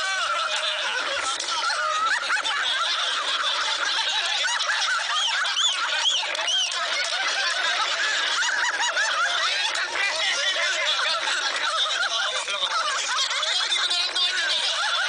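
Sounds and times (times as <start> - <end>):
group of people laughing: 0.0 - 15.0
high-pitched squeals of laughter: 0.0 - 15.0.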